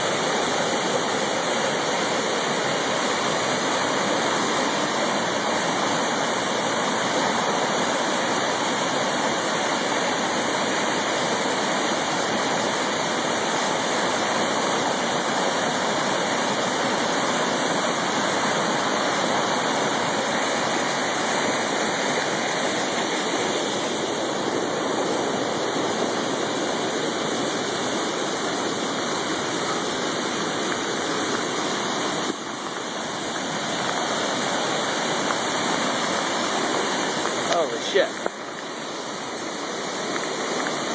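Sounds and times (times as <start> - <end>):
river rushing: 0.0 - 40.9.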